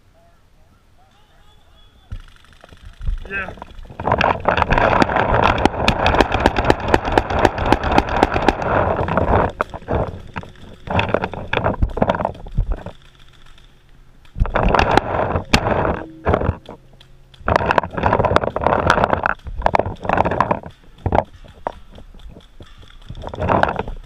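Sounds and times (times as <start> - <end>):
rustling of grass and gear: 0.0 - 24.0
paintball markers popping: 2.1 - 24.0.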